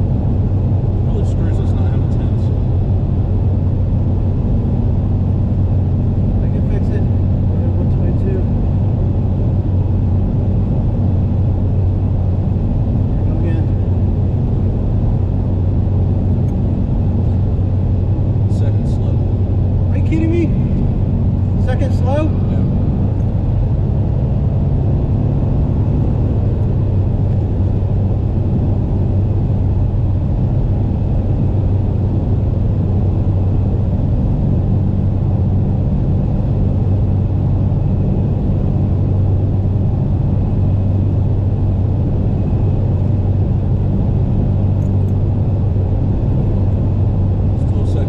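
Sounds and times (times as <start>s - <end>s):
car engine and road drone: 0.0s - 48.0s.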